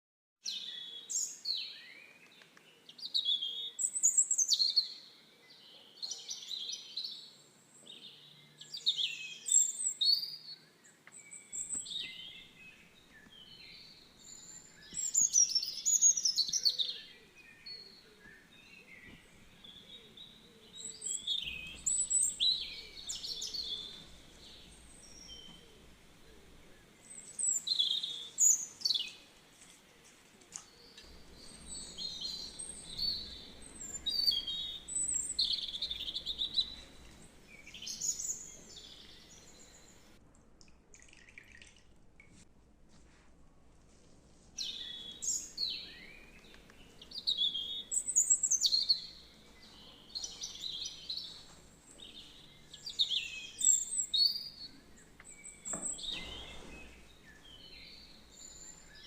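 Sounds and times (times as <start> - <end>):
birds singing and chirping: 0.4 - 29.8, 30.5 - 40.2, 44.6 - 59.0.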